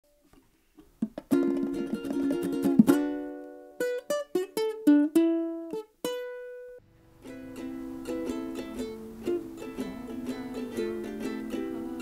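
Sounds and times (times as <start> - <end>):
plucked string instrument: 1.0 - 12.0.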